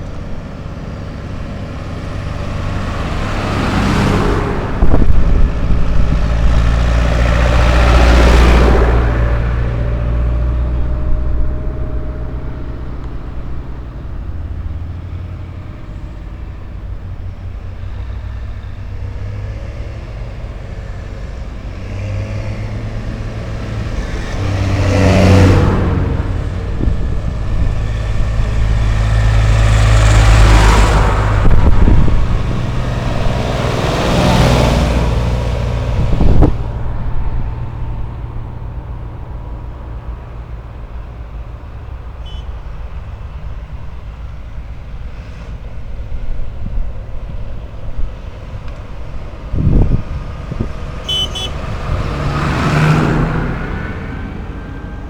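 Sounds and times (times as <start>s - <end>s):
vehicle engines running: 0.0s - 55.0s
vehicles passing by: 0.0s - 55.0s.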